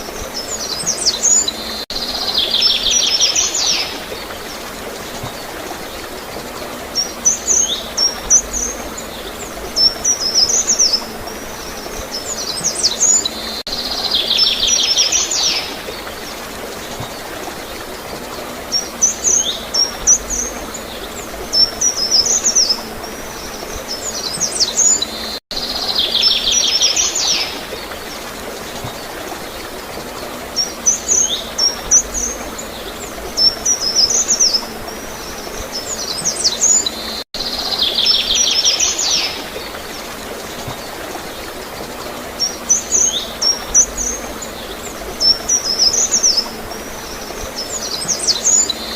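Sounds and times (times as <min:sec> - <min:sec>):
flowing gurgling water: 0:00.0 - 0:48.9
small birds chirping: 0:00.0 - 0:48.9.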